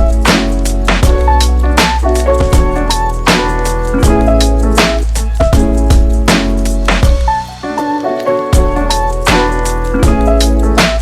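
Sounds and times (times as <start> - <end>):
funk music with heavy bass: 0.0 - 11.0.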